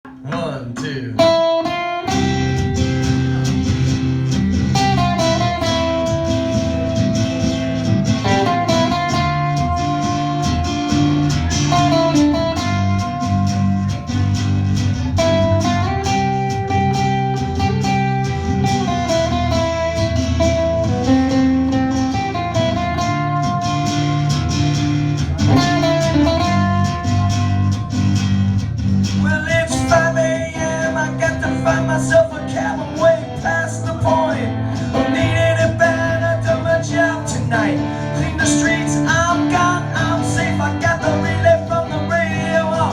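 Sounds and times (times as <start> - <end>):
acoustic band playing guitar: 0.0 - 42.9.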